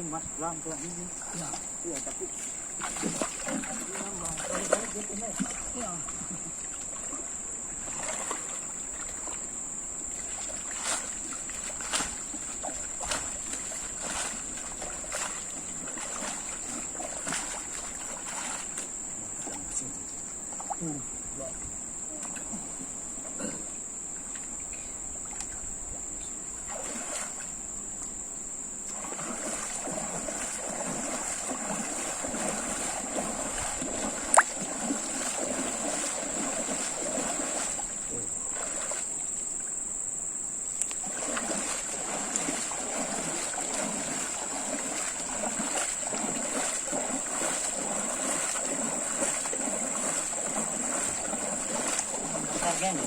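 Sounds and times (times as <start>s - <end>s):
high insect drone: 0.0s - 53.0s
river water splashing: 0.0s - 53.0s.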